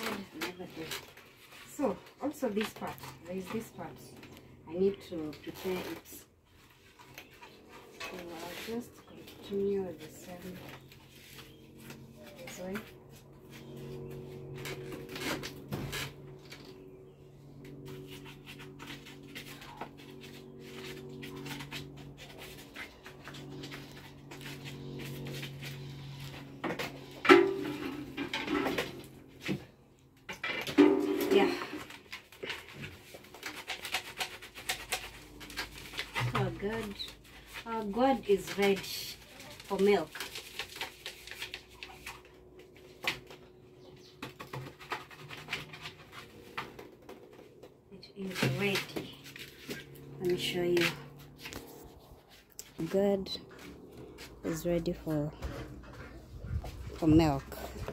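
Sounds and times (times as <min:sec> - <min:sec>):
wooden stick scraping a gourd: 0:00.0 - 0:29.6, 0:30.8 - 0:42.4, 0:44.0 - 0:47.4, 0:48.2 - 0:57.9.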